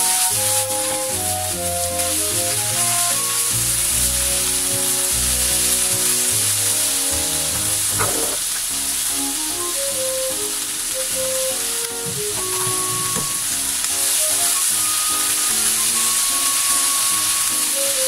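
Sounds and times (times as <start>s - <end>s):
background music: 0.0s - 18.0s
vegetables sizzling in a frying pan: 0.0s - 18.0s.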